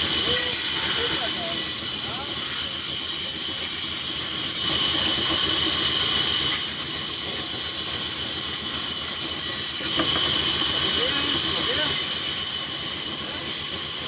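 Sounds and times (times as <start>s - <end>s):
power saw cutting wood: 0.0s - 14.0s.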